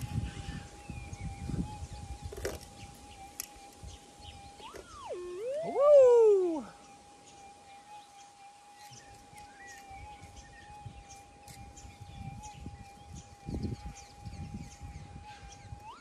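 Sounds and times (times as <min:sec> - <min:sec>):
faint bird chirps: 0:00.0 - 0:16.0
metal detector steady tone: 0:01.7 - 0:14.8.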